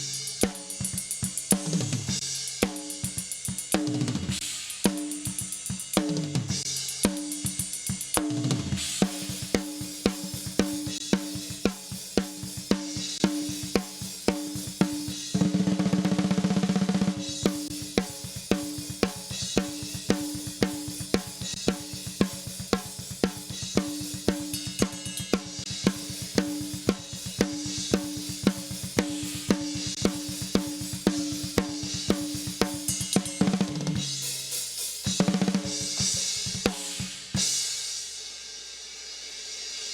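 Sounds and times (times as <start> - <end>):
metal drum kit beat: 0.0 - 38.2.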